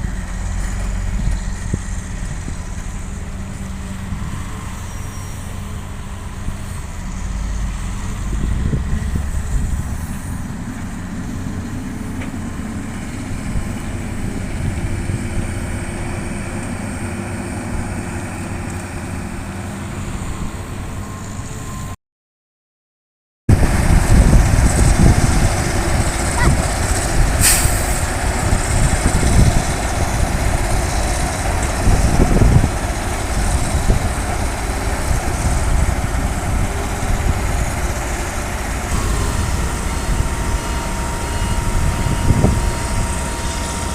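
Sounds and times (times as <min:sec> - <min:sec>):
heavy diesel engine rumbling: 0:00.0 - 0:22.0, 0:23.5 - 0:43.9.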